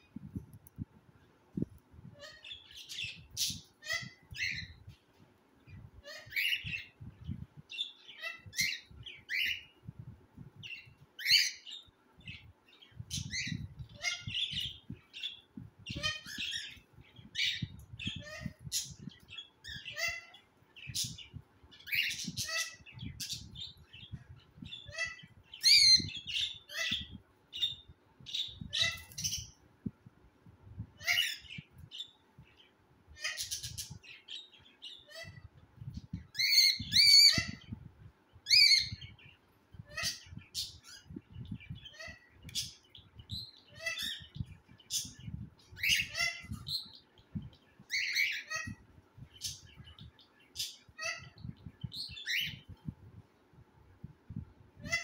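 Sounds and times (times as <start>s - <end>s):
bird chicks chirping and squawking: 1.5s - 29.7s, 30.7s - 53.1s, 54.3s - 55.0s.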